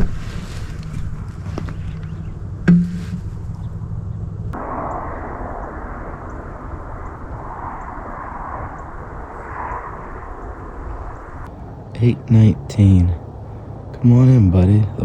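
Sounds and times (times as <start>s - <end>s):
rushing wind and tyre noise: 0.0s - 15.0s
steady low hum: 0.0s - 15.0s.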